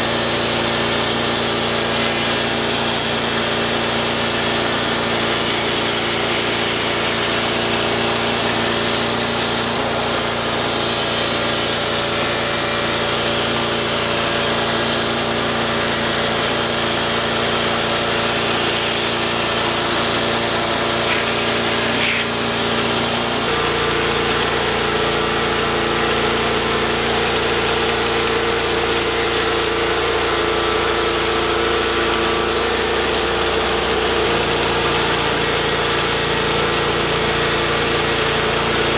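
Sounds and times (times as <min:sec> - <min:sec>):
bandsaw blade cutting log: 0:00.0 - 0:38.9
engine running: 0:00.0 - 0:38.9.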